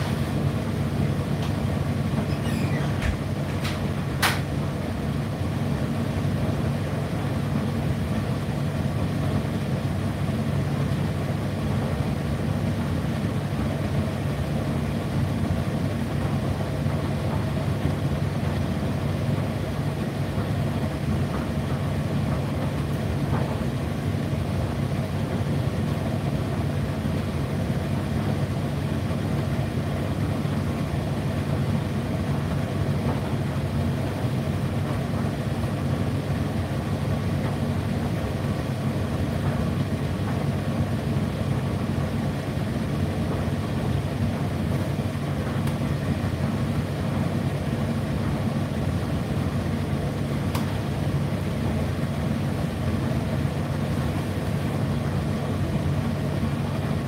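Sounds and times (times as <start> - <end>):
tumble dryer humming: 0.0 - 57.0.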